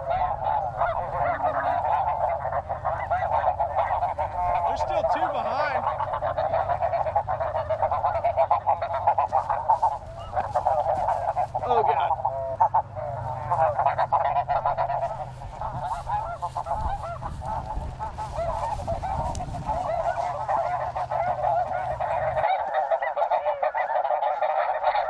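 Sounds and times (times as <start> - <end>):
low steady rumble: 0.0 - 22.9
geese honking: 0.0 - 25.0.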